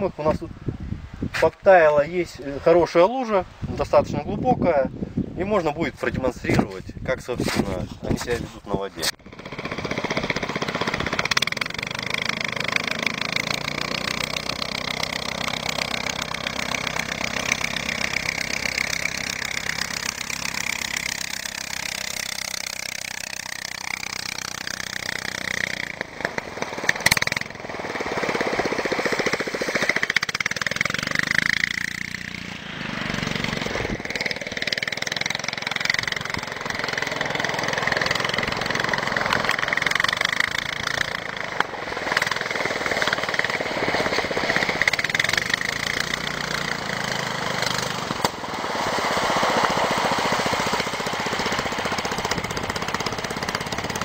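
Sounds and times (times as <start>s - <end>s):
engine and propeller running hard: 9.2s - 54.0s.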